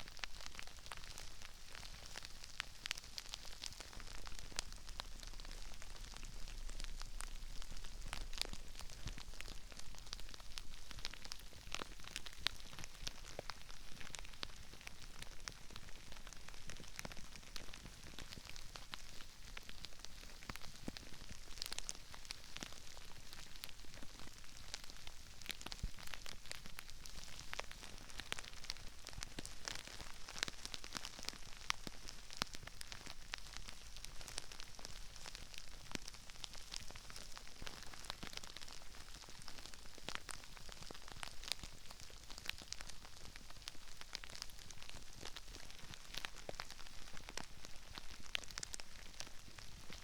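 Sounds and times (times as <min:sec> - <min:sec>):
crispy rice crackling and popping: 0:00.0 - 0:50.0.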